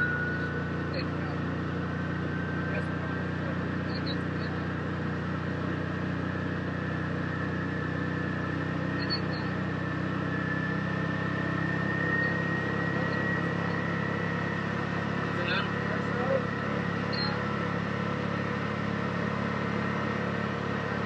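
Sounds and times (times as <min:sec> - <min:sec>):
thin whine: 0:00.0 - 0:21.0
utility vehicle engine running: 0:00.0 - 0:21.0.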